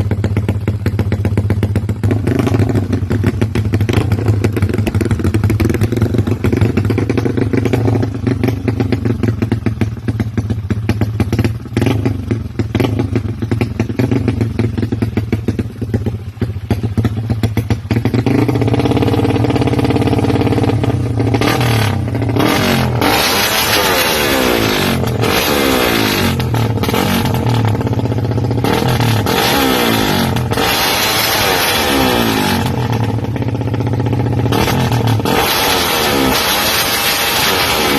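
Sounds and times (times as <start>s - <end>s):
motorcycle exhaust idling and revving: 0.0s - 37.9s.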